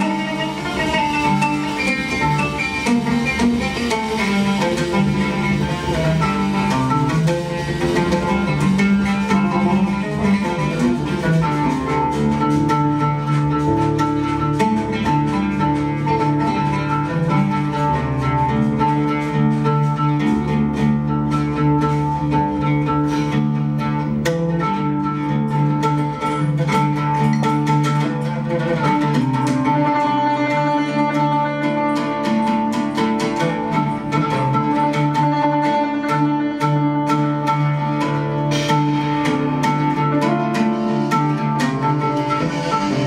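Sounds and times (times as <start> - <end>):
oud plucked: 0.0 - 43.0.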